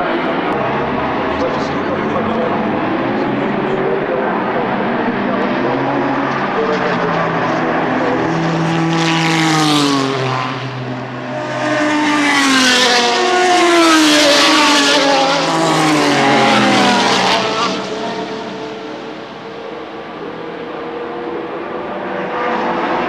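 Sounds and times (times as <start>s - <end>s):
race cars passing at speed: 0.0s - 23.0s.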